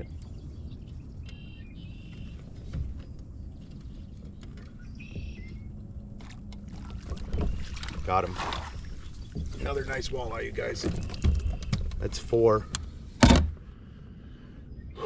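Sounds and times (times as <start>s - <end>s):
wind and water rumble: 0.0s - 15.0s.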